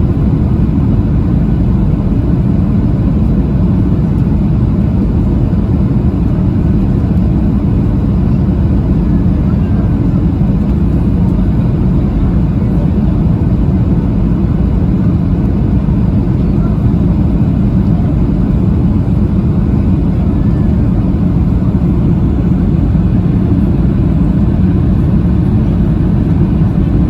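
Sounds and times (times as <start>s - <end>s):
jet engine rumble in cabin: 0.0s - 27.0s.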